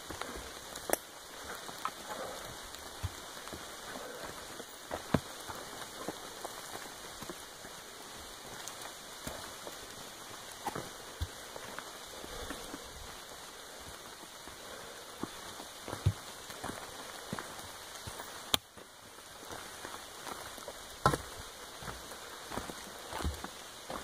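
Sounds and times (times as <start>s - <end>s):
footsteps on rocky trail: 0.0s - 24.0s
steady hiss: 0.0s - 24.0s.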